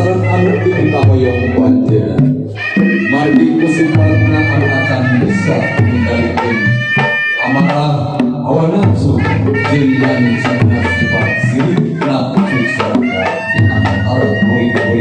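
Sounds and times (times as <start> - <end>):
hand drum strokes: 0.0 - 15.0.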